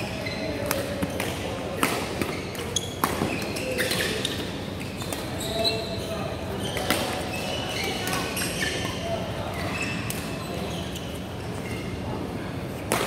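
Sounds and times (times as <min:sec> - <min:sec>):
shoes squeaking on court: 0:00.0 - 0:12.0.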